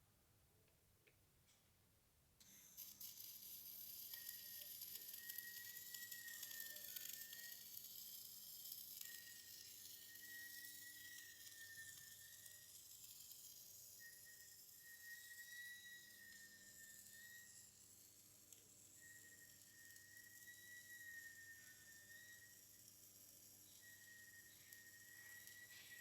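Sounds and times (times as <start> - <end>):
thin high whine: 2.4 - 26.0
welding arc crackling and sizzling: 2.4 - 26.0.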